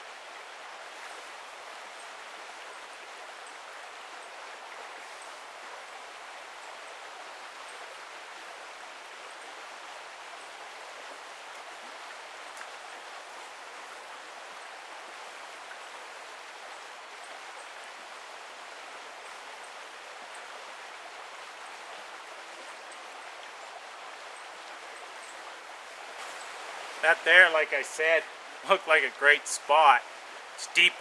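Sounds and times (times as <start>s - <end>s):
brook water rushing: 0.0s - 31.0s.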